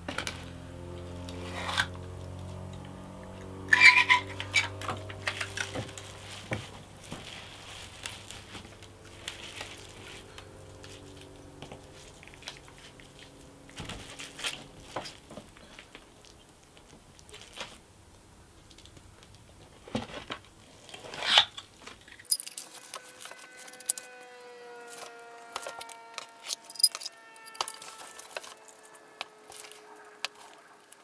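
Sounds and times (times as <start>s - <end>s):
scraping and crunching of soil: 0.0s - 18.0s, 18.7s - 31.0s.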